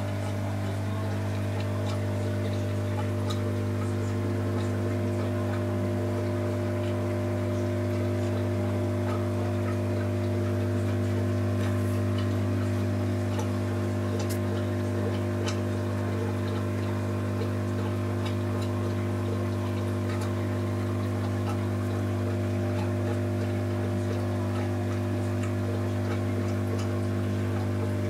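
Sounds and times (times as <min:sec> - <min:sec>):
air pump humming: 0:00.0 - 0:28.0
faint bubble ticks: 0:00.0 - 0:28.0.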